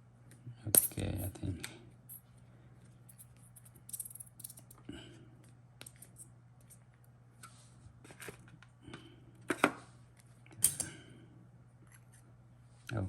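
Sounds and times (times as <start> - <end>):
faint steady low hum: 0.0 - 13.0.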